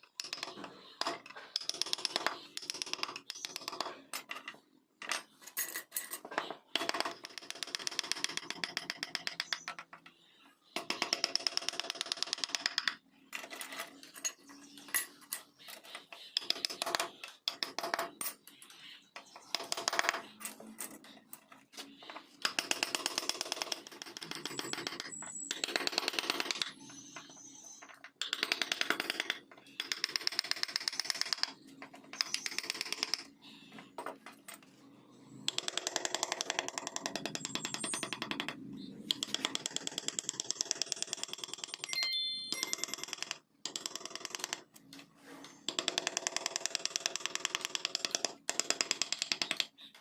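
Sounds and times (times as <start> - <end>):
carving tool chattering on wood: 0.0 - 4.3, 6.4 - 10.1, 10.7 - 13.6, 14.4 - 20.6, 22.4 - 33.4, 35.4 - 42.0, 42.6 - 44.8, 45.6 - 50.0.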